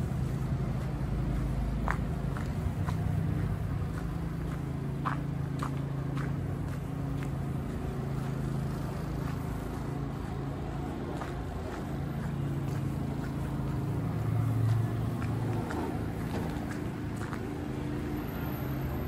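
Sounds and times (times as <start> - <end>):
footsteps on snow: 0.0 - 19.0
street traffic drone: 0.0 - 19.0.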